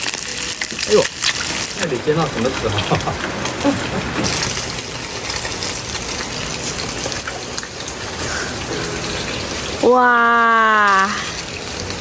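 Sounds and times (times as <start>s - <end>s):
fish sizzling in hot oil: 0.0s - 12.0s
oil crackling: 0.0s - 12.0s.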